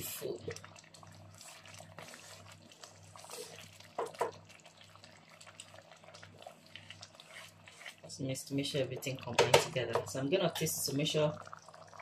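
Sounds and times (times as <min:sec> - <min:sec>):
water sloshing in a pot: 0:00.0 - 0:12.0.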